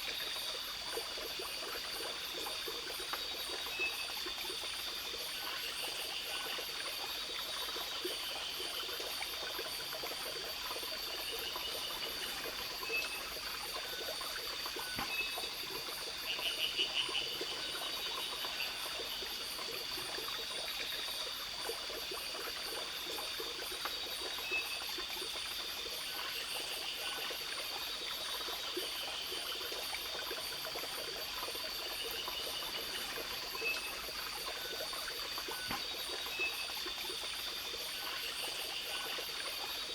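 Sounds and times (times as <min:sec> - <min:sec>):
insect chorus: 0:00.0 - 0:39.9
stream running: 0:00.0 - 0:39.9.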